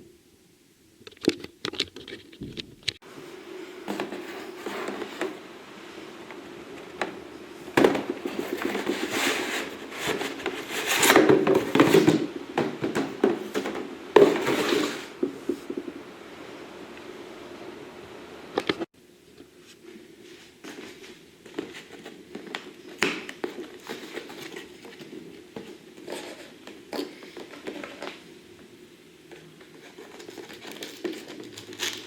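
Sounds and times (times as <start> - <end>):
scraping and rustling: 1.2 - 16.1, 19.6 - 28.2, 29.3 - 32.0.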